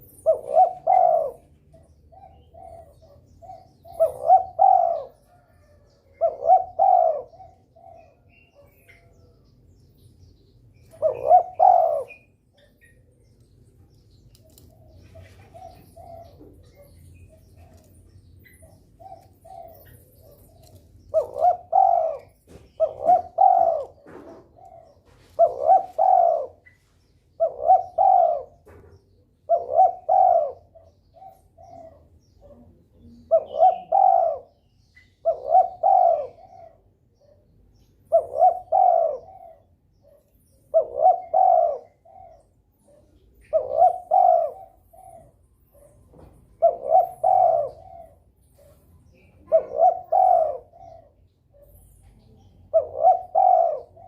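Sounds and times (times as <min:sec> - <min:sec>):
dove cooing: 0:00.0 - 0:09.5, 0:10.7 - 0:13.4, 0:14.3 - 0:54.0.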